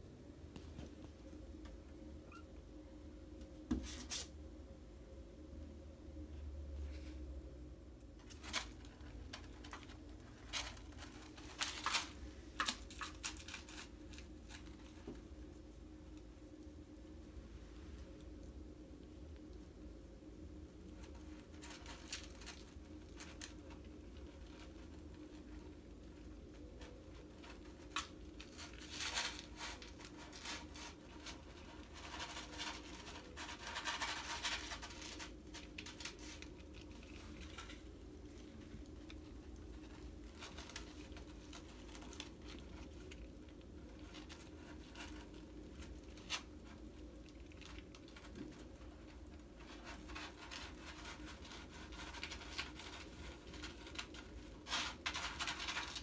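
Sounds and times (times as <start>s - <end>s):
scratching in cat litter: 3.6s - 4.4s, 8.1s - 18.5s, 20.3s - 56.0s
kittens eating dry kibble: 7.9s - 56.0s.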